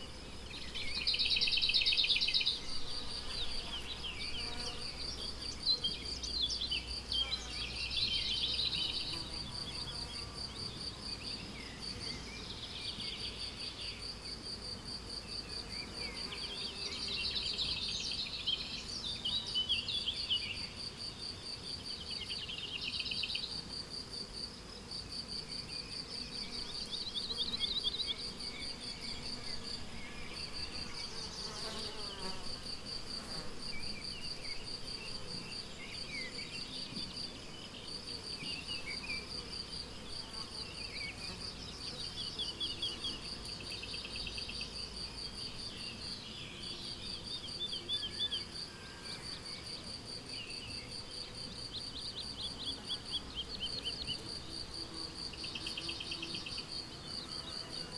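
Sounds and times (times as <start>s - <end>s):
songbirds singing: 0.0s - 14.4s, 15.2s - 20.8s, 21.7s - 23.6s, 25.5s - 32.4s, 33.3s - 57.7s
crickets chirping: 0.0s - 57.9s.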